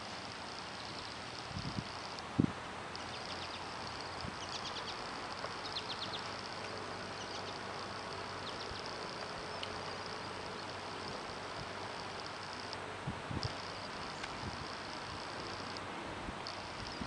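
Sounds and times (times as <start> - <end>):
insect drone: 0.0 - 17.0
steady hiss: 0.0 - 17.0.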